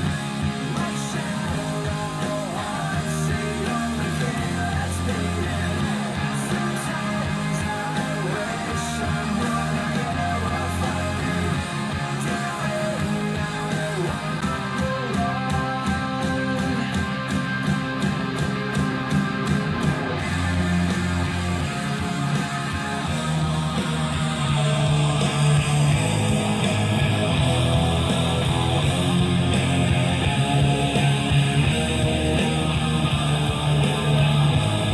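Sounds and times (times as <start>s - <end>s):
rock music over speakers: 0.0s - 34.9s.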